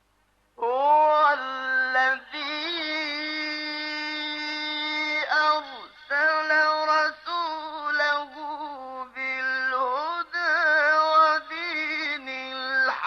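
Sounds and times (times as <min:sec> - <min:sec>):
man reciting melodically: 0:00.6 - 0:13.0.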